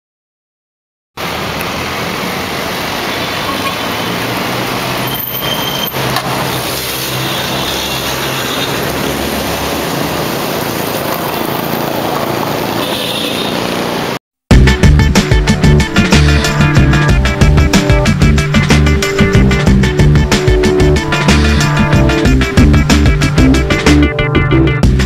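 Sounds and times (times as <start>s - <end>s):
road traffic passing: 1.2s - 25.0s.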